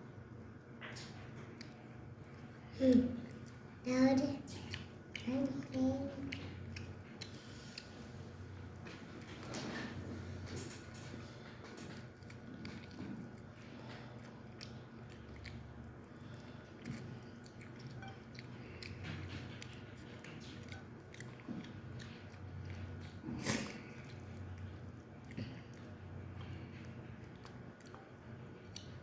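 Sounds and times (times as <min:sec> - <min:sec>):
person chewing chicken: 0:04.4 - 0:29.0.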